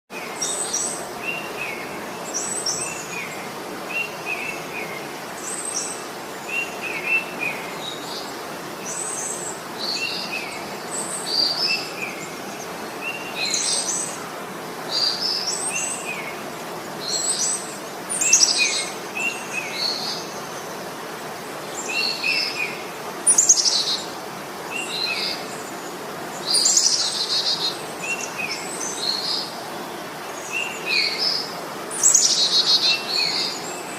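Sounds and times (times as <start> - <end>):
steady background hiss: 0.1 - 33.9.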